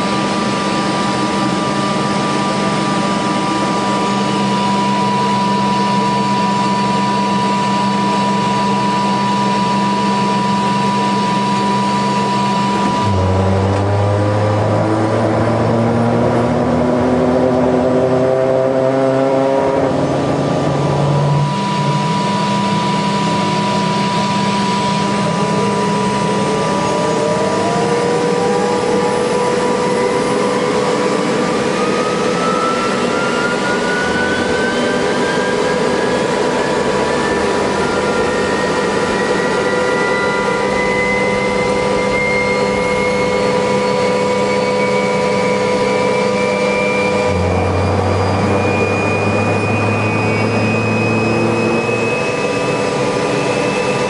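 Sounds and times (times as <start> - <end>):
helicopter turbine engines running: 0.0 - 17.9, 19.1 - 54.0
whine rising in pitch: 0.0 - 54.0.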